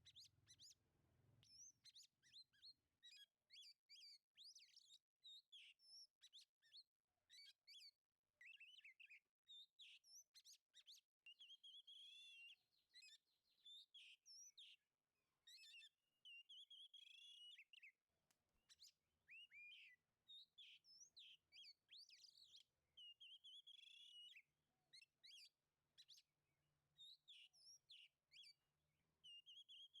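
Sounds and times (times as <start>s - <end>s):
faint bird song: 0.0s - 30.0s.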